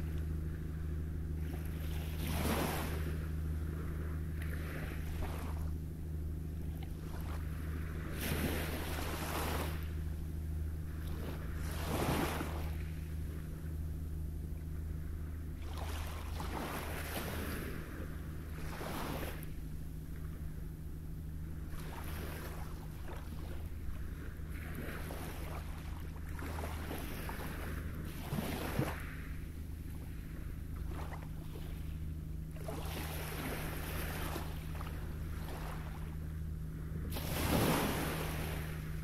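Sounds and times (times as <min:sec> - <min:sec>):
low rumble: 0:00.0 - 0:39.0.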